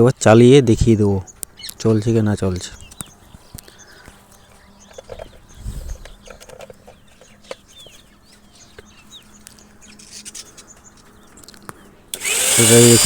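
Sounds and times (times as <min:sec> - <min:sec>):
birds chirping and clucking: 0:00.8 - 0:12.3.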